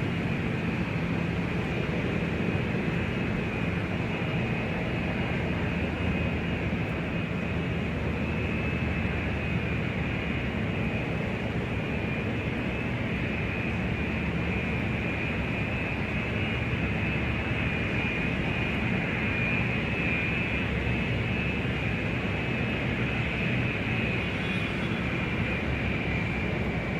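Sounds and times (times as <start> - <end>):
jet engine rumble and whine: 0.0 - 26.9.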